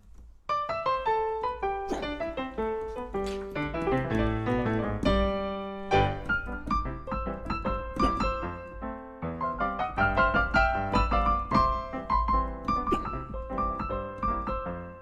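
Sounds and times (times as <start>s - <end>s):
piano music: 0.5s - 15.0s.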